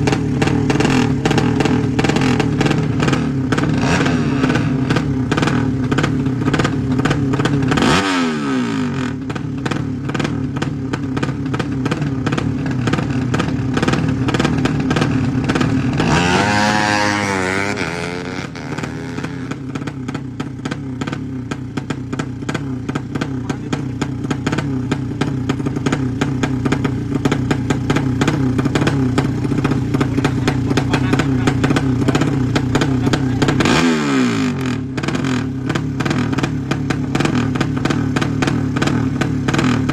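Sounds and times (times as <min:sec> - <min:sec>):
drag racing motorcycle engines: 0:00.0 - 0:39.9.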